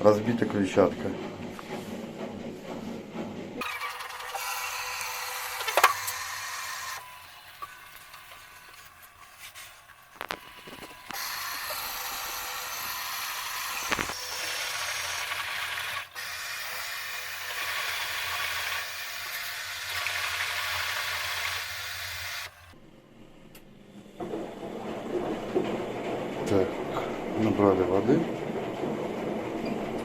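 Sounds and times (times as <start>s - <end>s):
water rushing into washing machine: 3.6s - 22.8s, 24.2s - 30.0s.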